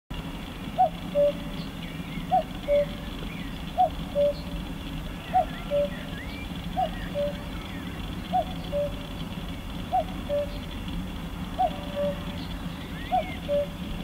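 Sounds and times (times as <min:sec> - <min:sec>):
faint chirps of small birds: 0:00.2 - 0:14.0
cuckoo calling: 0:00.5 - 0:14.0.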